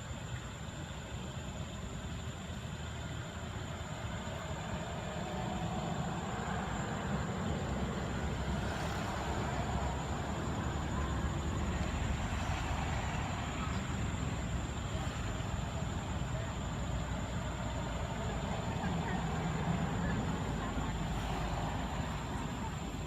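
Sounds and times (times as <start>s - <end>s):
thin steady high tone: 0.0s - 23.0s
vehicle engine rumbling: 2.9s - 23.0s.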